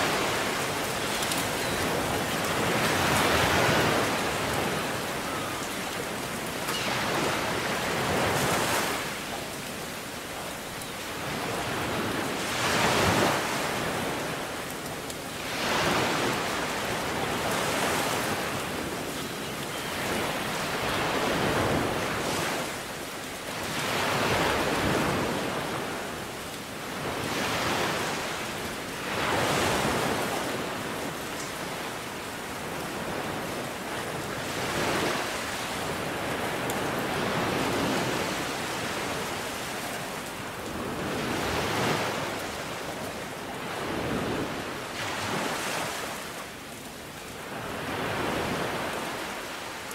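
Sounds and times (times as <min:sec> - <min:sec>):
waves breaking on shore: 0:00.0 - 0:49.9.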